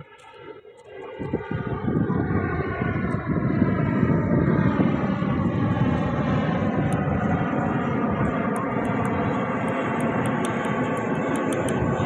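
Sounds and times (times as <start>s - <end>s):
jet airliner passing overhead: 0.0s - 12.0s
jet engine whine: 0.0s - 12.0s.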